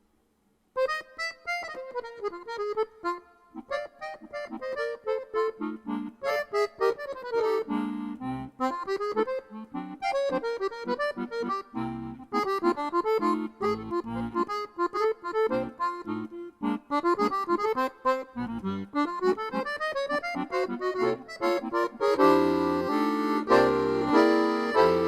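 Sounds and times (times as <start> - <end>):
accordion playing quick melody: 0.8 - 25.0.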